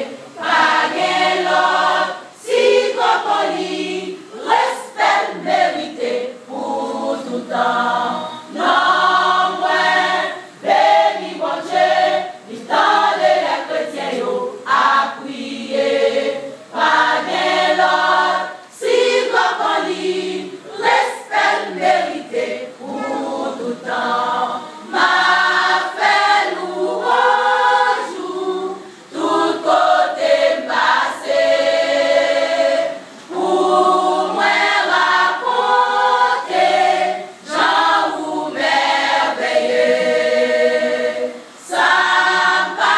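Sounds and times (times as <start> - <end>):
women's choir singing: 0.0 - 42.9.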